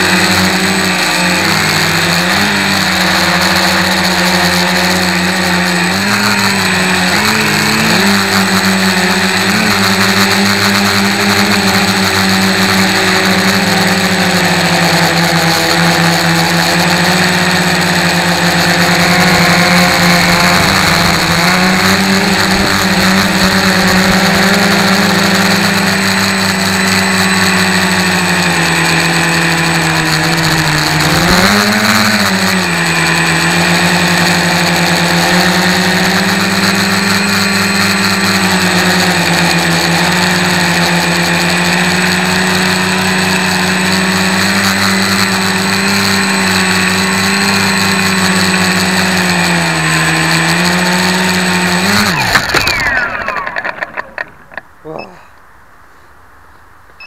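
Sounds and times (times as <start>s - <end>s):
drone motors and propellers humming: 0.0s - 55.2s.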